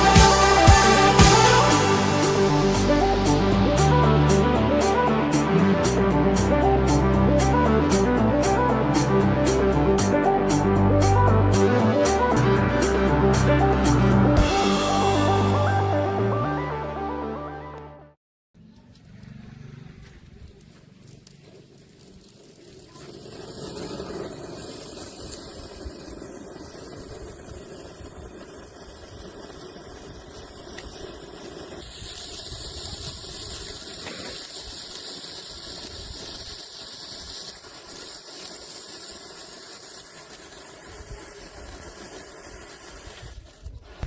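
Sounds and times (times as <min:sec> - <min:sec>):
firecracker fizzing hiss: 0:00.0 - 0:15.8, 0:20.5 - 0:44.0.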